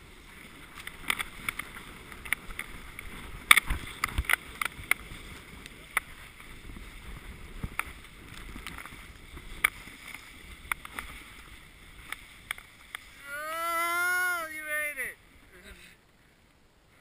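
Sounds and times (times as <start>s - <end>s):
sled scraping over snow: 0.0s - 16.0s.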